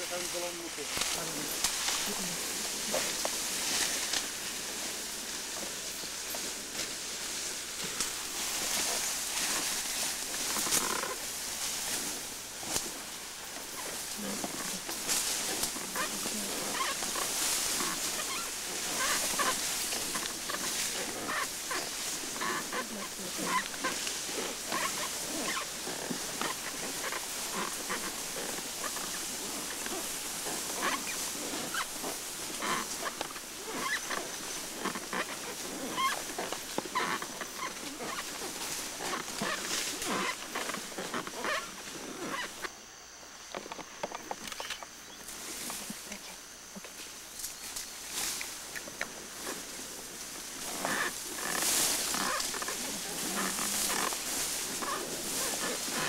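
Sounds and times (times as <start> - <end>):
grass and brush rustling: 0.0 - 56.0.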